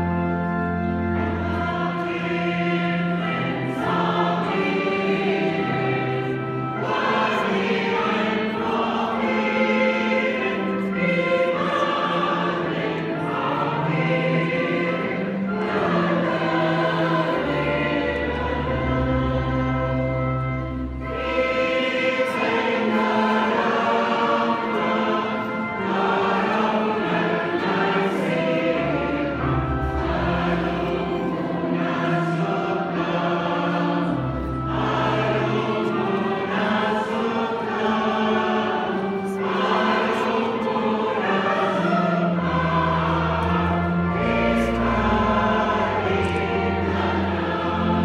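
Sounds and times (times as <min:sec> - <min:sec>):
choir singing a hymn: 0:00.0 - 0:48.0
pipe organ notes: 0:00.0 - 0:48.0.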